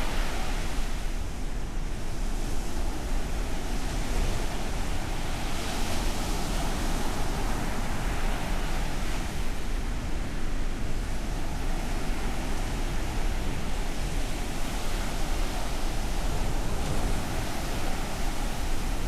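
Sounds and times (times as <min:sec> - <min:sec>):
ocean waves breaking on beach: 0:02.2 - 0:19.0.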